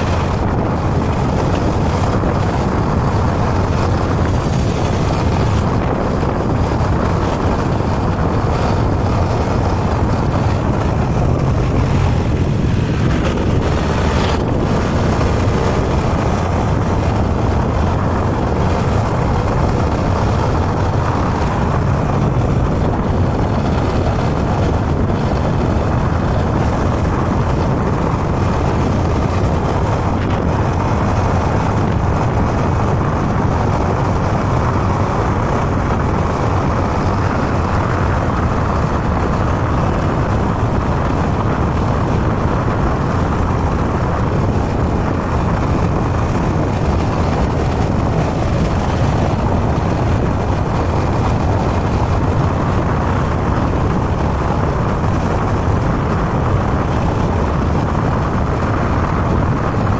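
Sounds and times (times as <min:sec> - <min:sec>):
motorbike engine running: 0:00.0 - 0:59.9
tyre noise on road: 0:00.0 - 0:59.9
wind rushing over microphone: 0:00.0 - 0:59.9.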